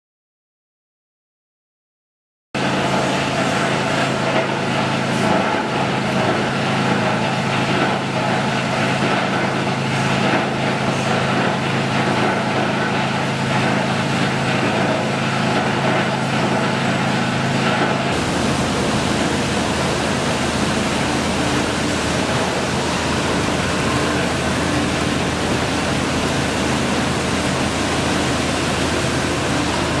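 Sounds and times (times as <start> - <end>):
machinery din with low hum: 2.6 - 30.0.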